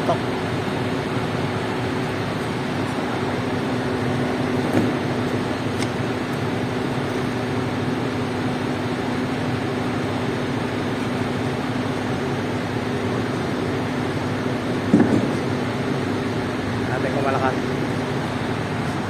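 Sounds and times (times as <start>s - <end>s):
concrete pump truck running: 0.0s - 19.0s.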